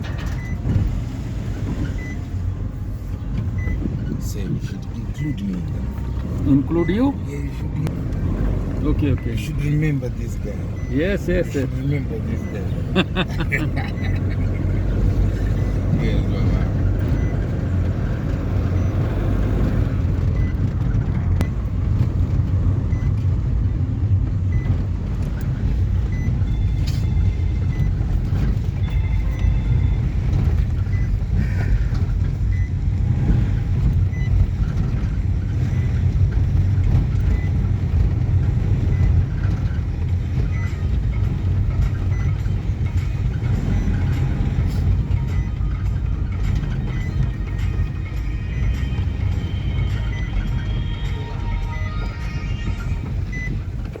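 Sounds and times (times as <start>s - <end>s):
road vehicle rumble: 0.0s - 54.0s.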